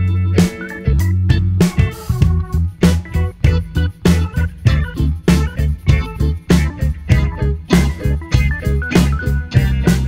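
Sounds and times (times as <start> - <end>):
funky instrumental music: 0.0 - 10.0
plucked guitar notes: 0.0 - 10.0
repeating bass line: 0.0 - 10.0.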